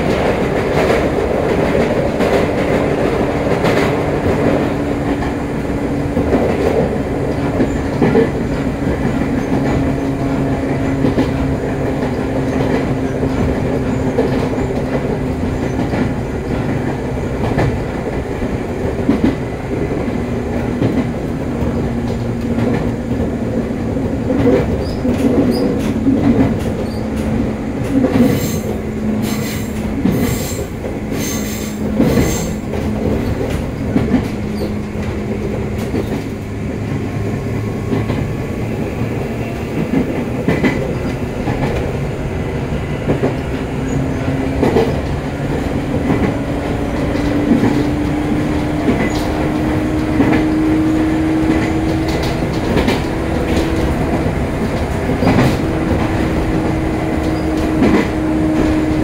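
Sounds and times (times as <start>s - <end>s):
train motor and gear hum: 0.0s - 59.0s
wheels clicking over rail joints: 0.0s - 59.0s.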